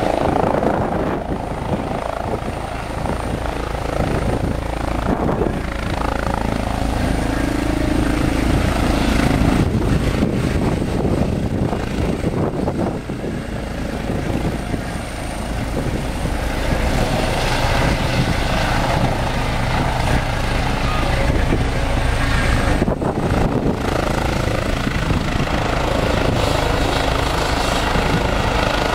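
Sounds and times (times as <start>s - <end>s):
helicopter rotor and turbine noise: 0.0s - 28.9s
high turbine whine: 0.0s - 28.9s.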